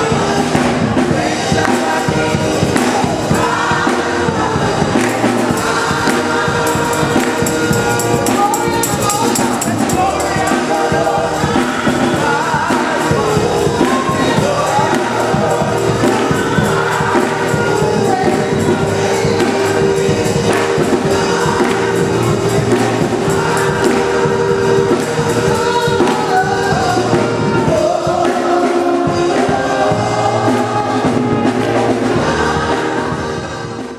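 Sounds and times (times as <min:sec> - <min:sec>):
choir singing gospel music: 0:00.0 - 0:33.9.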